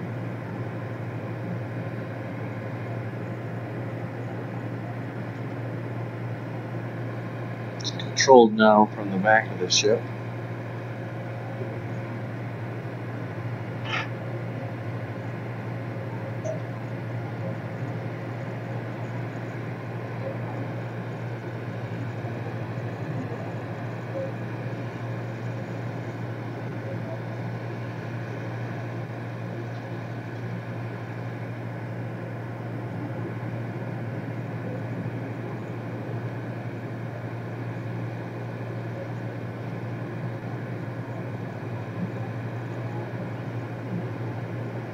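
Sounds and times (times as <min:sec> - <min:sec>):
ferry engines droning: 0:00.0 - 0:44.9.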